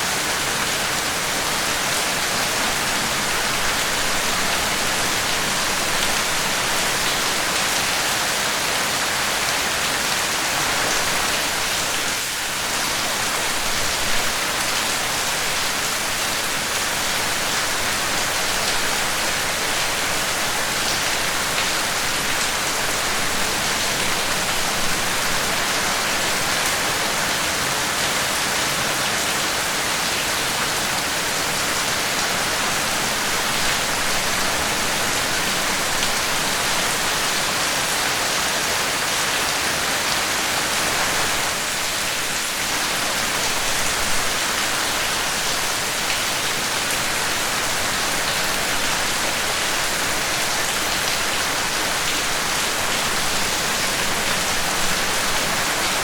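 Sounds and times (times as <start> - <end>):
dense rainfall hiss: 0.0 - 56.0.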